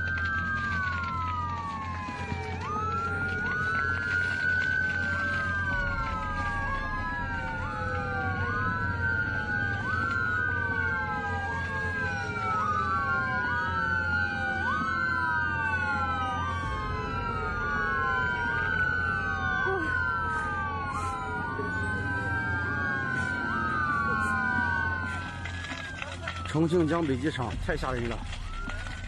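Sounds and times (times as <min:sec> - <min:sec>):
fire engine sirens wailing: 0:00.0 - 0:29.0
steady low rumble: 0:00.1 - 0:11.9, 0:16.4 - 0:26.5, 0:27.1 - 0:29.0.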